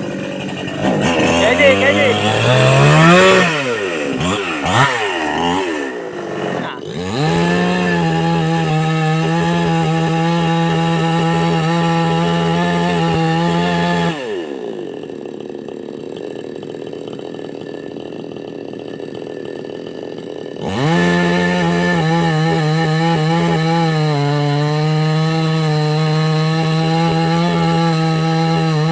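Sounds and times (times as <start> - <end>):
chainsaw revving: 0.0 - 28.9.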